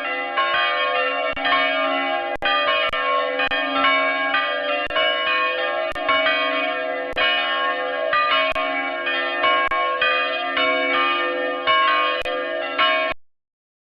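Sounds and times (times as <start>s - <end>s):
bells ringing in a peal: 0.0s - 13.2s.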